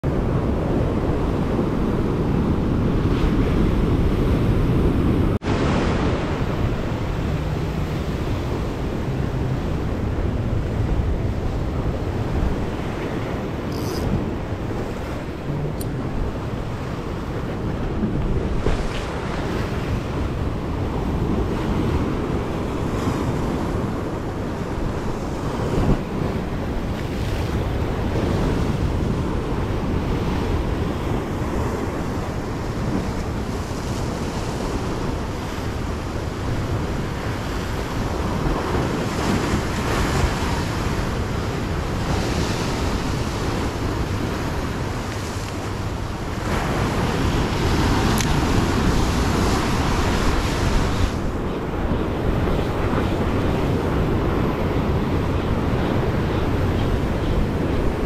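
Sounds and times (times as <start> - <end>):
wind buffeting microphone: 0.0 - 58.0
sea waves washing on rocks: 3.6 - 58.0.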